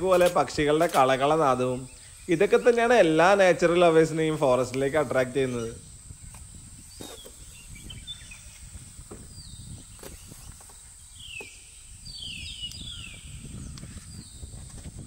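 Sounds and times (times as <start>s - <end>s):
birds whistling downward notes: 1.2s - 14.7s
high-pitched insect drone: 1.2s - 14.9s.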